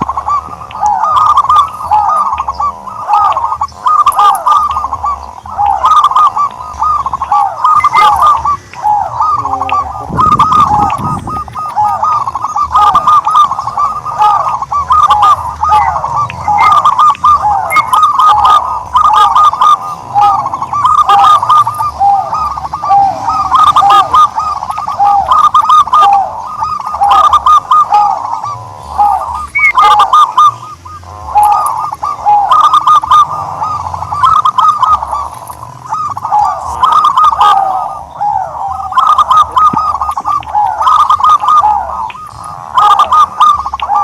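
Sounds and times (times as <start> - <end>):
scattered clicks: 0.0 - 2.6, 3.2 - 19.8, 20.4 - 28.6, 33.9 - 37.5, 38.9 - 44.0
turtledove calling: 0.0 - 44.0.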